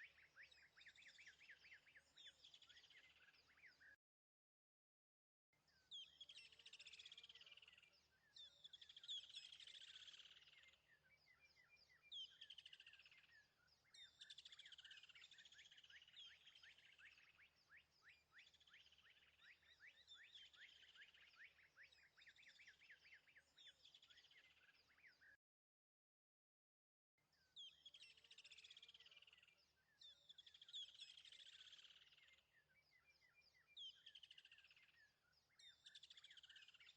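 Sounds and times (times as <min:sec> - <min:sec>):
faint bird chirping: 0:00.0 - 0:04.0, 0:05.6 - 0:25.4, 0:27.2 - 0:36.9.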